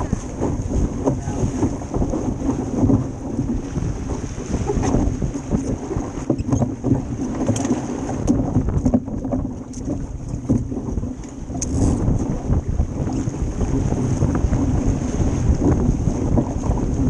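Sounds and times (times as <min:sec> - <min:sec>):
knocks and clicks on boat: 0:00.0 - 0:17.0
water rushing along hull: 0:00.0 - 0:17.0
wind buffeting camera: 0:00.0 - 0:17.0.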